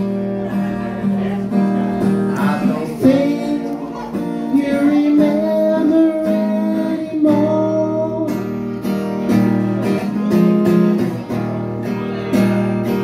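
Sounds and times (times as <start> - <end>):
acoustic guitar slow chords: 0.0 - 13.0.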